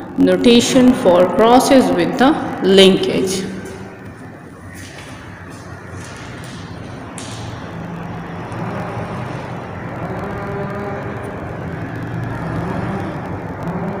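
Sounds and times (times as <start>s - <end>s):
vehicle engine hum: 2.0s - 14.0s.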